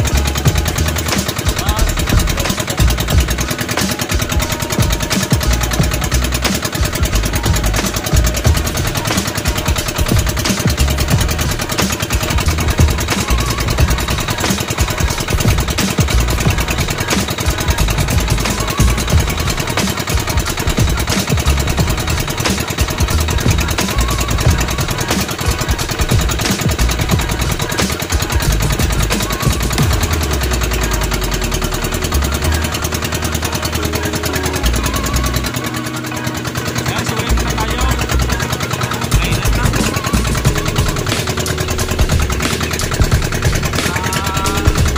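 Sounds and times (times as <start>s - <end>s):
small boat engine puttering: 0.0s - 44.9s.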